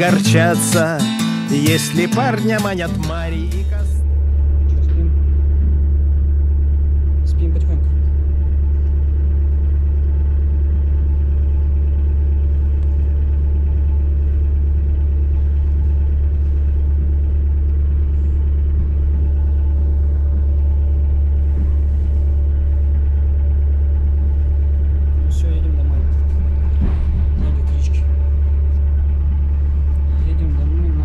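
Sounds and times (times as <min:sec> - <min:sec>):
vehicle rumbling: 0:00.0 - 0:31.0.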